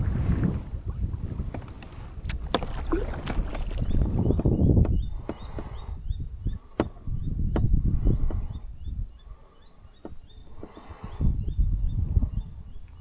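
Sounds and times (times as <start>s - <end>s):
wind buffeting microphone: 0.0s - 9.4s, 10.2s - 13.0s.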